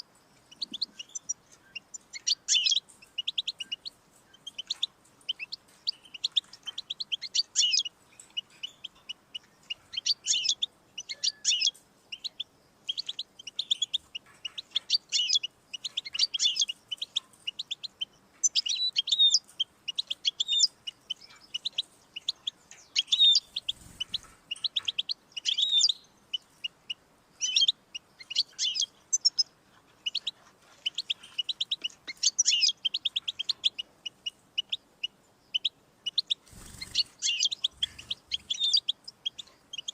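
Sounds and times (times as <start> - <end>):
goldfinch singing: 0.0 - 39.9.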